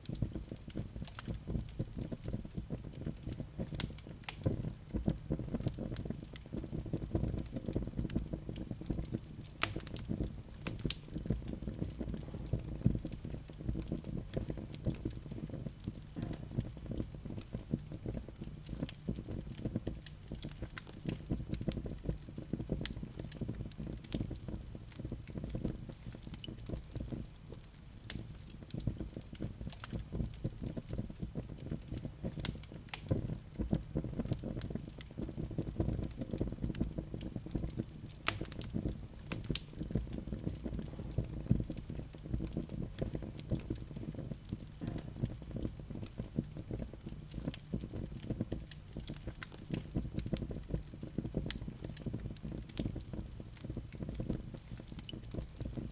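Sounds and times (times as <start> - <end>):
burning wood crackling and popping: 0.0 - 55.9
low rumble of flames: 0.0 - 55.9.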